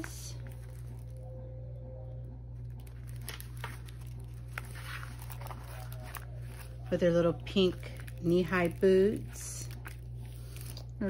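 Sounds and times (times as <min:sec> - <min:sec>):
plastic film crinkling: 0:00.0 - 0:01.3, 0:02.6 - 0:11.0
low hum: 0:00.0 - 0:11.0.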